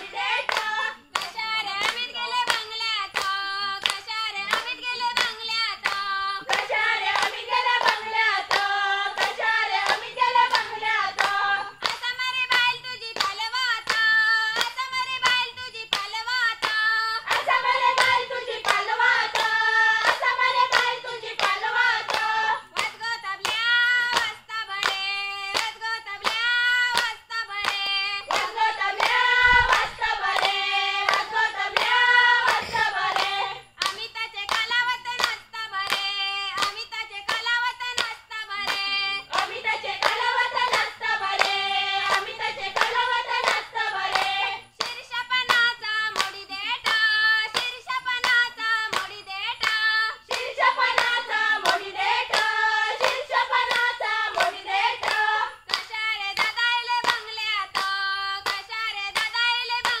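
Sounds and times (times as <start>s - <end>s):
hand claps: 0.0s - 60.0s
women singing folk song: 0.0s - 60.0s.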